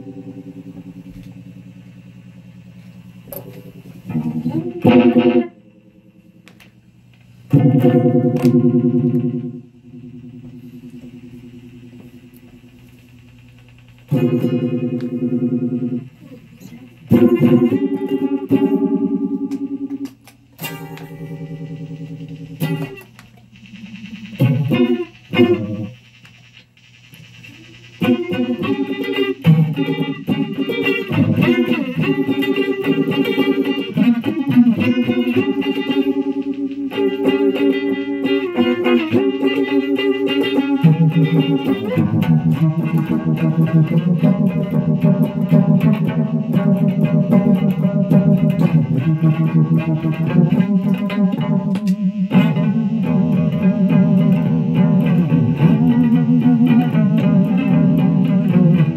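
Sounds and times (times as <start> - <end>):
distorted electric guitar: 0.0 - 58.9.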